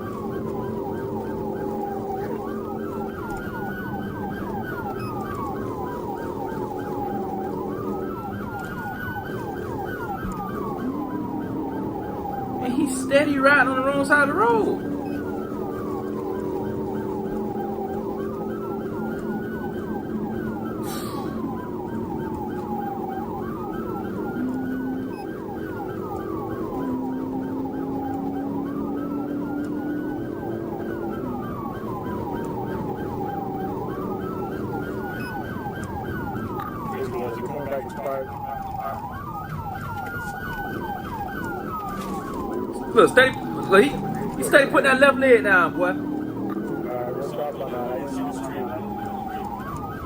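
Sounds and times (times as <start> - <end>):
fast pulsing siren pattern: 0.0 - 50.0
police siren wailing: 0.0 - 50.0.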